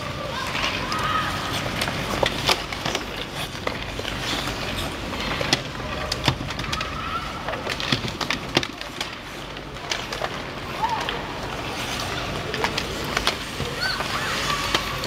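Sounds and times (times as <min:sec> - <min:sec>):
hockey sticks clacking on puck: 0:00.0 - 0:15.0
skate blades scraping ice: 0:00.0 - 0:15.0.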